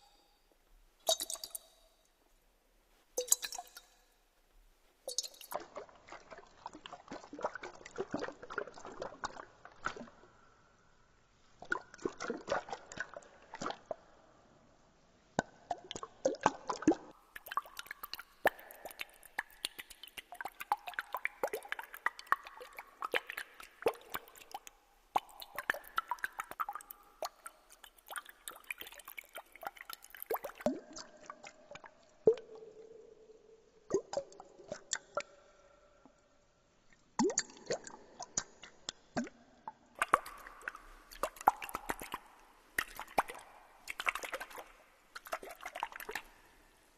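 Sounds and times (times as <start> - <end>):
water dripping and plopping: 1.0 - 2.2, 3.2 - 4.2, 5.0 - 10.3, 11.6 - 14.1, 15.4 - 33.0, 33.9 - 36.2, 36.9 - 46.8.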